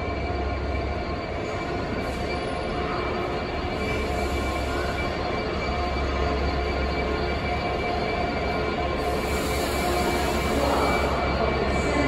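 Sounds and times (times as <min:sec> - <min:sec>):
diesel locomotive engine throbbing: 0:00.0 - 0:12.0.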